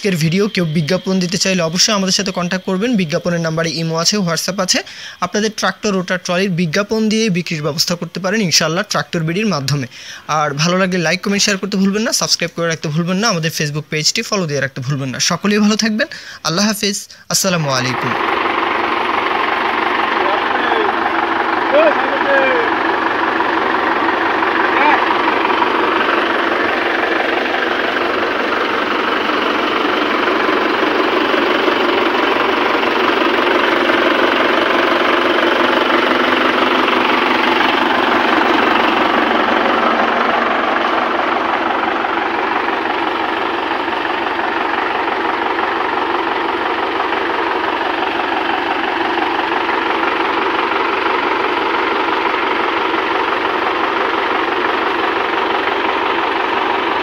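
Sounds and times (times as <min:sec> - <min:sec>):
diesel tractor engine idling: 0:00.0 - 0:57.0.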